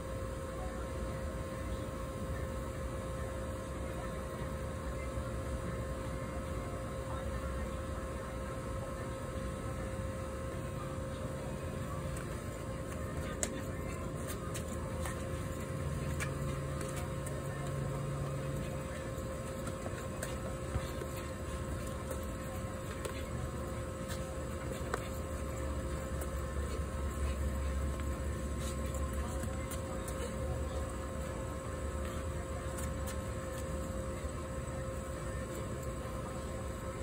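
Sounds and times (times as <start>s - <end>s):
steady mechanical hum: 0.0s - 37.0s.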